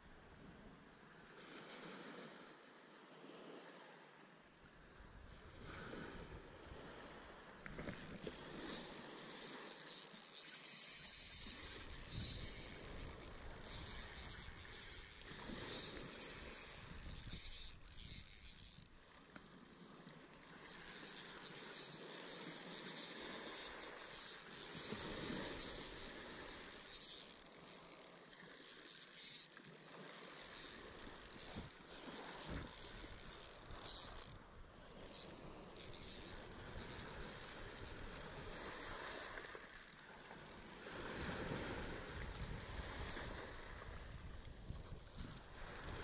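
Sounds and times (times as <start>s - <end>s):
fishing reel whirring: 7.6s - 45.1s.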